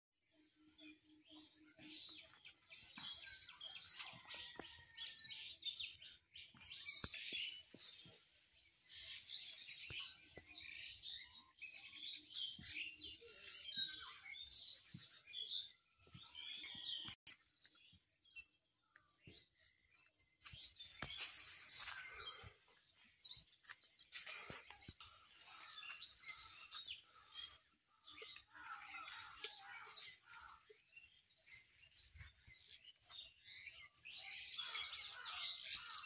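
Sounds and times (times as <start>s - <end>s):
small birds twittering: 0.4s - 36.0s.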